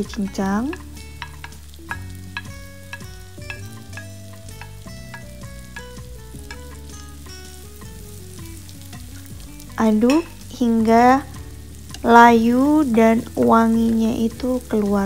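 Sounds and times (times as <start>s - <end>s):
light background music: 0.0s - 15.0s
vegetables sizzling in butter: 0.0s - 15.0s.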